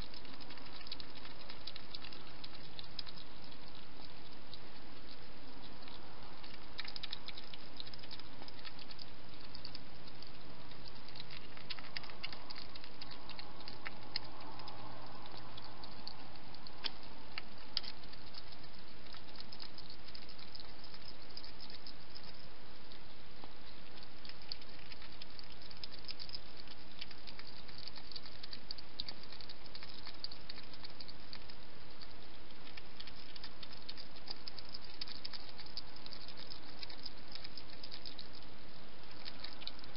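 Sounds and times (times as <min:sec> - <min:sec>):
hedgehog eating with crunches: 0:00.0 - 0:39.9
steady hiss: 0:00.0 - 0:39.9.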